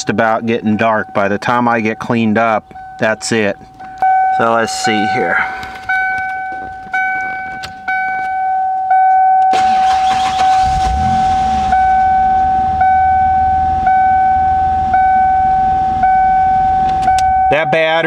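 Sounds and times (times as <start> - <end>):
dashboard warning chime: 0.0 - 10.9, 11.6 - 18.0
car engine cranking and idling: 0.0 - 18.0.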